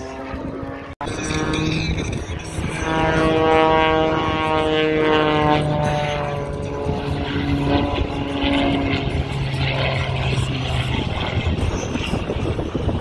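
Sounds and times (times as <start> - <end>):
propeller plane diving: 0.0 - 13.0.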